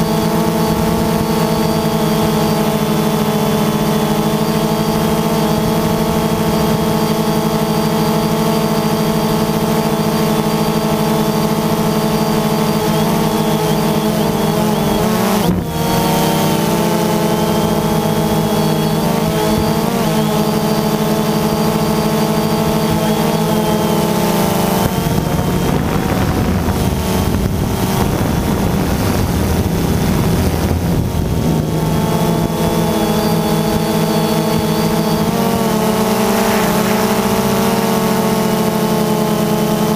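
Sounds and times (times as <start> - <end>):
drone motors and propellers whirring: 0.0 - 39.9.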